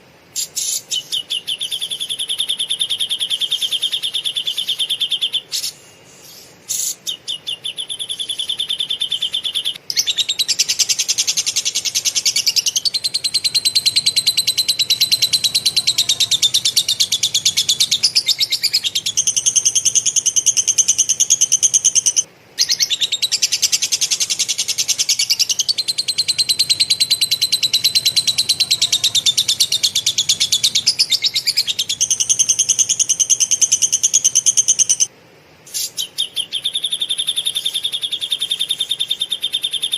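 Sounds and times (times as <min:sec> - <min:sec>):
songbird harsh chattering song: 0:00.4 - 0:35.1, 0:35.7 - 0:39.9.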